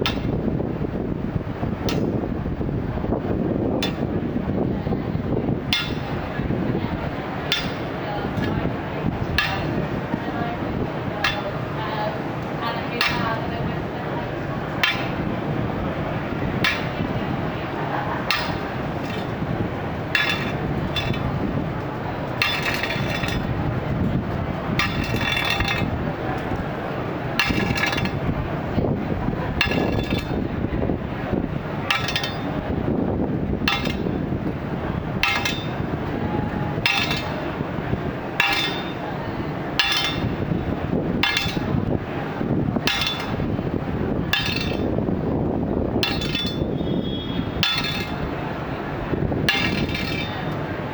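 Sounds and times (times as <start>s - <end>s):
low background rumble: 0.0s - 50.9s
steel bars clanking: 3.8s - 4.2s, 4.9s - 50.9s.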